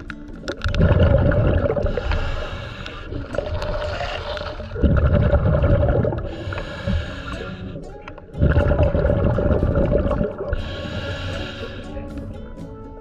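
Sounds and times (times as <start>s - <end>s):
underwater bubbles from regulator: 0.0s - 11.8s.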